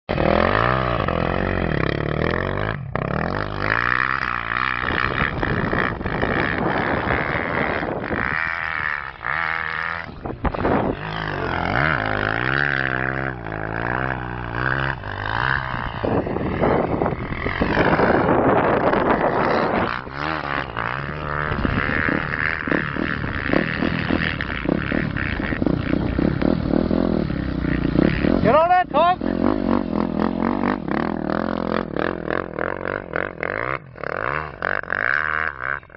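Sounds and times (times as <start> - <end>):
motocross bike engine revving: 0.1 - 35.9.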